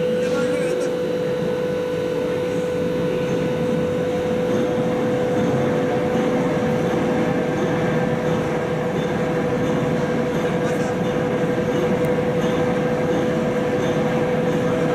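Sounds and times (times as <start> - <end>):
constant train whine: 0.0 - 14.9
train rumbling: 0.0 - 14.9.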